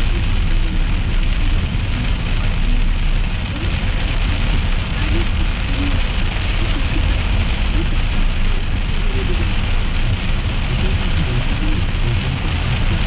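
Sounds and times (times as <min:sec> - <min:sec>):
car rumbling on road: 0:00.0 - 0:13.0
heavy rain on car roof: 0:00.0 - 0:13.0.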